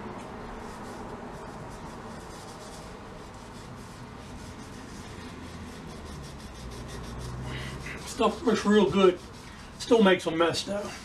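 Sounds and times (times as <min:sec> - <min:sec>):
scouring pad scrubbing paint: 0:00.6 - 0:11.0.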